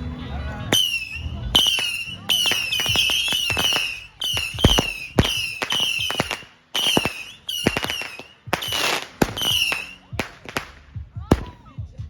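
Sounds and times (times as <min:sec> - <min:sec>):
firework whistles: 0:00.7 - 0:11.5
crackling hiss: 0:00.8 - 0:11.5
firework pops and cracks: 0:00.8 - 0:11.7.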